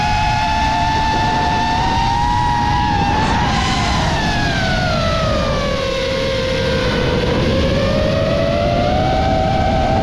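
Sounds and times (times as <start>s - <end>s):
quadcopter motors whining: 0.0s - 10.0s
rush of wind: 0.0s - 10.0s.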